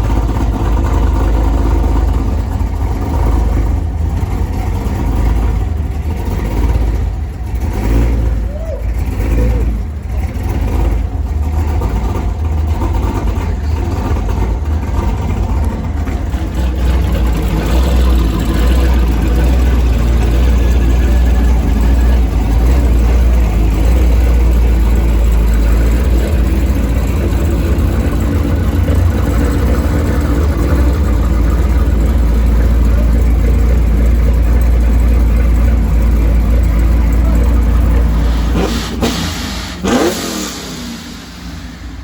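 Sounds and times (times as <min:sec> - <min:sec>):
car engine rumbling: 0:00.0 - 0:42.0.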